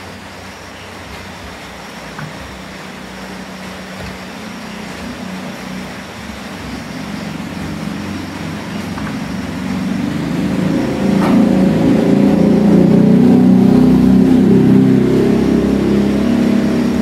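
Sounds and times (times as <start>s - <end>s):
motor engine running: 1.0s - 17.0s.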